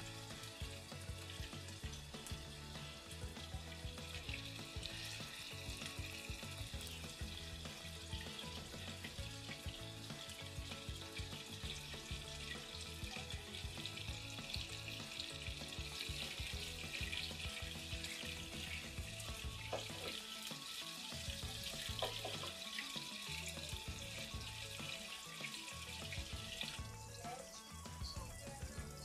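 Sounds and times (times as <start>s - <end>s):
meatballs sizzling in oil: 0.0s - 29.0s
soft background music: 0.0s - 29.0s.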